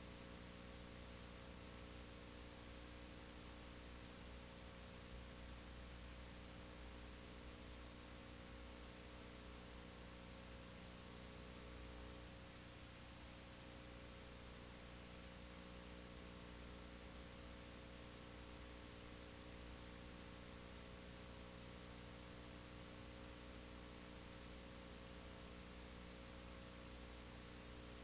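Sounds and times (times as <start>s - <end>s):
faint electrical hum with hiss: 0.0s - 28.0s.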